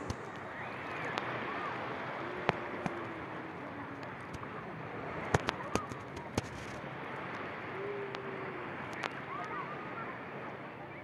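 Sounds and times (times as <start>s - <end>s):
sea water lapping: 0.0s - 11.0s
wind and surf hiss: 0.0s - 11.0s.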